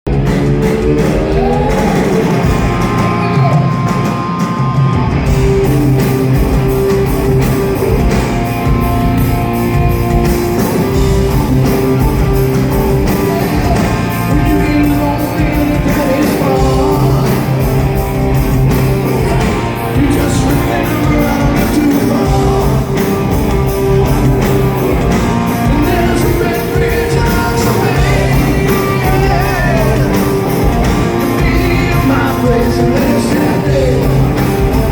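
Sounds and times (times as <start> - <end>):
live hard rock band playing: 0.0 - 34.9.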